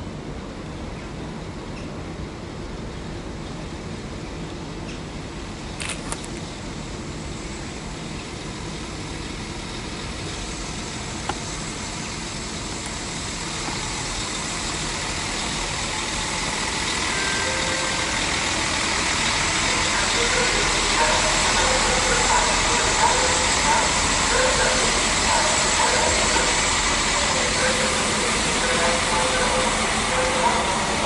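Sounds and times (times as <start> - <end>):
train running noise and hiss: 0.0 - 31.0.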